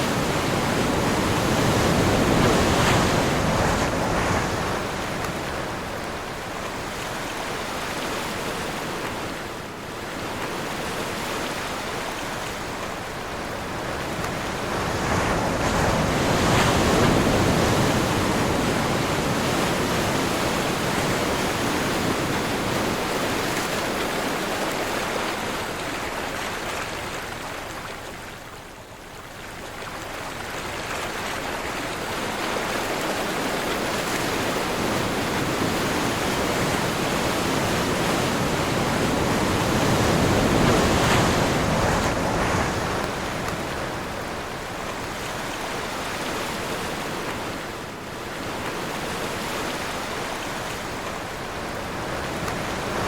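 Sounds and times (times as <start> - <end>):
strong wind: 0.0 - 11.8, 12.5 - 25.5, 32.5 - 53.0
ocean waves breaking: 0.0 - 28.6, 29.3 - 53.0.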